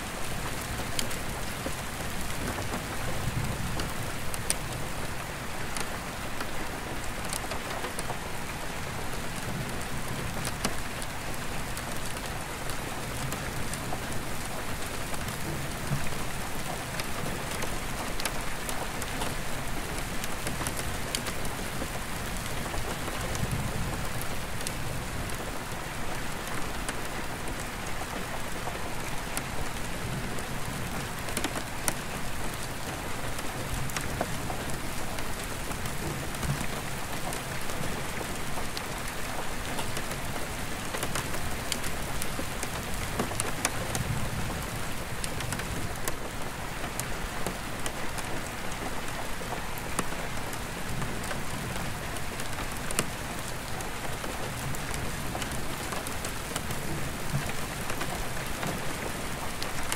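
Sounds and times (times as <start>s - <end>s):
rain on a skylight: 0.0s - 59.9s.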